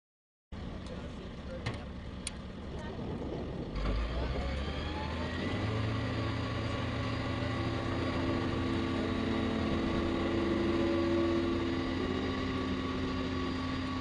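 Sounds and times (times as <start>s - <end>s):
large vehicle engine running: 0.6s - 14.0s.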